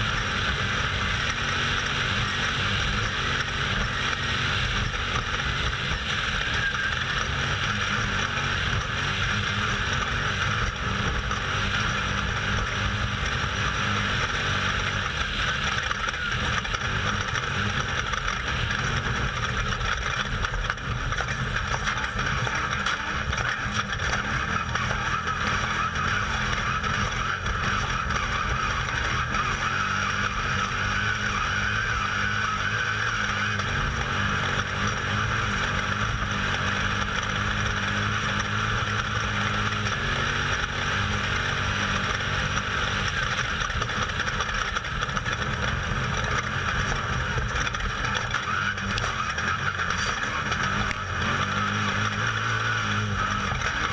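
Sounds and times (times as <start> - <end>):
loud engine drone: 0.0 - 53.9
road noise rumble: 0.0 - 53.9.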